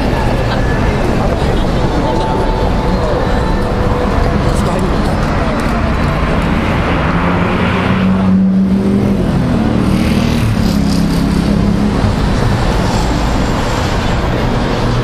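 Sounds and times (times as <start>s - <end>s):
engine drone: 0.0s - 15.0s
traffic rumble: 0.0s - 15.0s.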